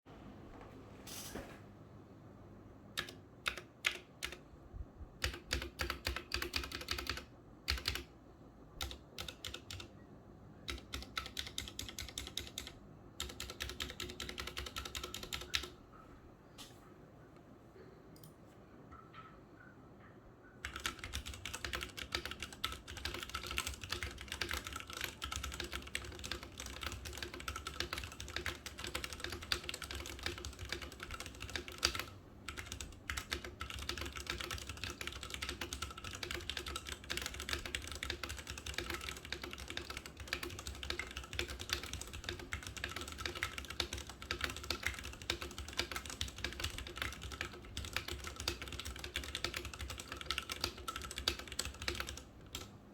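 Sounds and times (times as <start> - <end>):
mechanical keyboard typing: 3.0 - 4.4, 5.2 - 8.1, 8.8 - 9.9, 10.6 - 15.8, 20.6 - 52.7.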